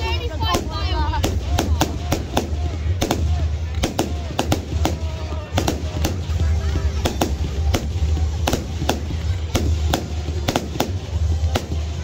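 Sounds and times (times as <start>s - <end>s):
firework bangs and pops: 0.3s - 12.0s.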